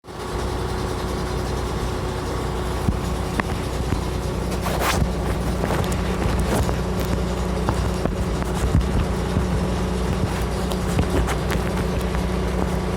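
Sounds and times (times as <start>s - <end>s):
diesel engine running: 0.0s - 12.9s
digging scraping rush: 0.1s - 12.9s.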